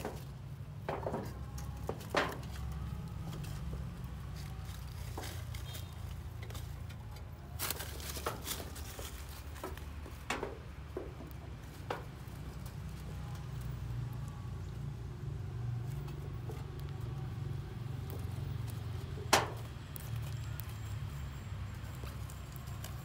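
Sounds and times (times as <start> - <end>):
puppies rustling dry leaves: 1.1 - 23.0.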